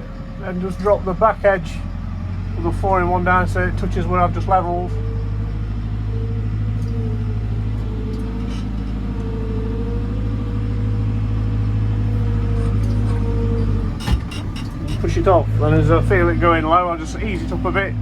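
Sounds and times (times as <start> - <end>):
diesel engine under load: 0.0 - 18.0.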